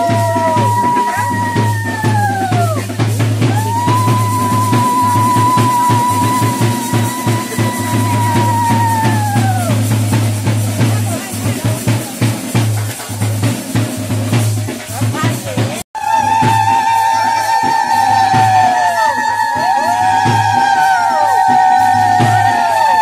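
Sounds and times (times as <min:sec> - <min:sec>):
drums beating steady rhythm: 0:00.0 - 0:23.0
voices: 0:00.0 - 0:23.0.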